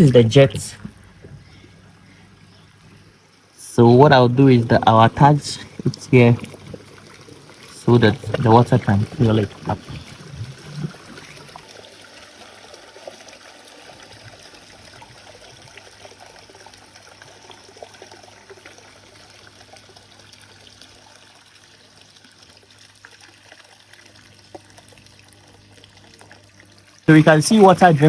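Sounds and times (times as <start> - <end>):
low steady hum: 0.0 - 28.0
water trickling into hose: 0.0 - 28.0.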